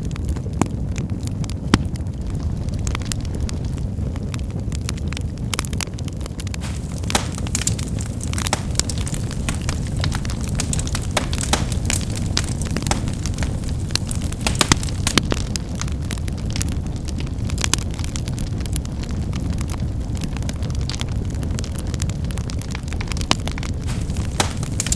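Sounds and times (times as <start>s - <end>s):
firewood crackling and popping: 0.0s - 24.9s.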